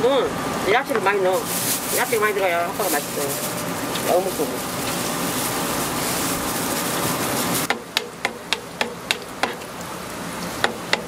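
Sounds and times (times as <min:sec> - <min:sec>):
food frying in hot oil: 0:00.0 - 0:11.0.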